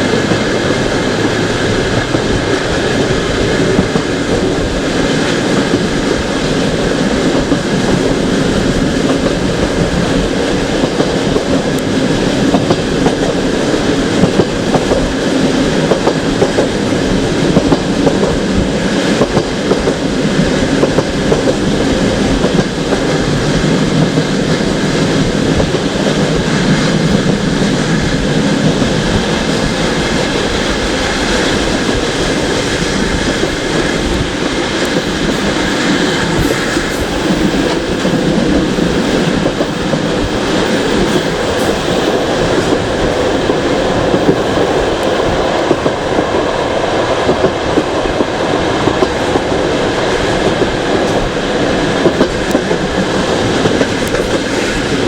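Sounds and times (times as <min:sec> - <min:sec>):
rail clack: 0:00.0 - 0:55.0
train wheels rumbling on track: 0:00.0 - 0:55.0.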